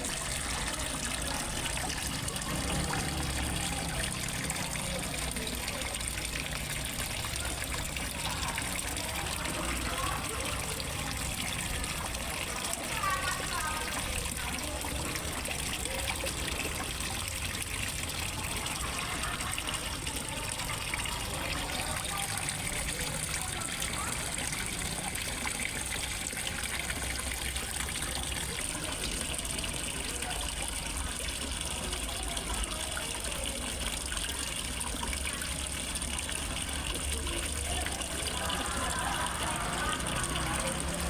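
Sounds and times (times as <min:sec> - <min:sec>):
water falling into pond: 0:00.0 - 0:41.0.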